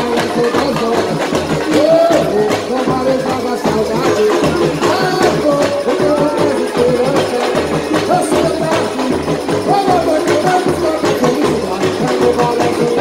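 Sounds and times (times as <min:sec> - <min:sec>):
person singing: 0:00.0 - 0:13.0
samba band playing: 0:00.0 - 0:13.0
surdo drums beating: 0:00.0 - 0:13.0.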